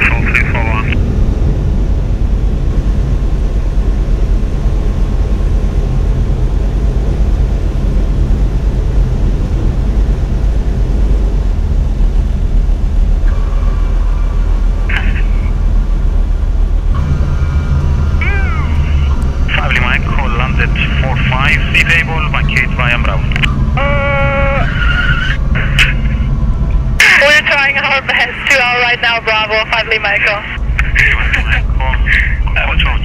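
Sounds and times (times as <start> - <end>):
aircraft engine low drone: 0.0 - 33.0.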